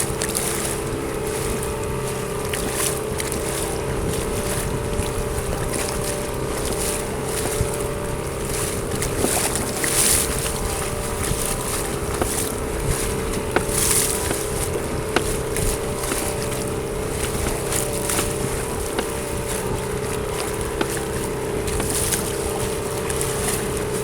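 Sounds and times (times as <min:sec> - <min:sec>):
boat engine running: 0:00.0 - 0:24.0
water noise: 0:00.0 - 0:24.0
wind: 0:00.0 - 0:24.0.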